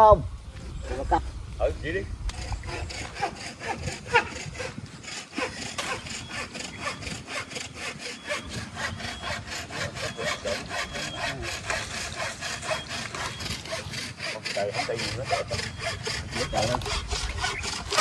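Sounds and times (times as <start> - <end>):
hand saw cutting: 0.6 - 18.0.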